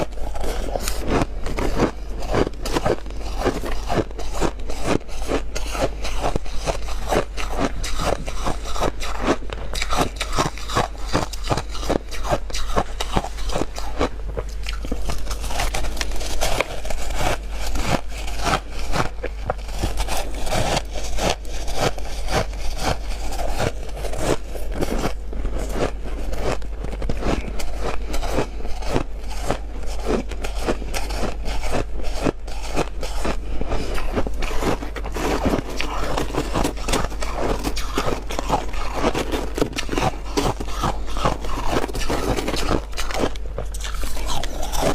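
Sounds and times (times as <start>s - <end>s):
biting and crunching frost: 0.0s - 44.9s.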